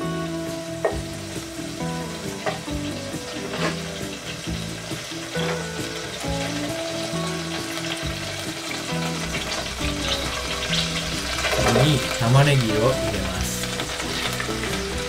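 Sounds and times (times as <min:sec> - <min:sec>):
background music of held notes: 0:00.0 - 0:15.0
oil sizzling in a pot: 0:00.0 - 0:15.0.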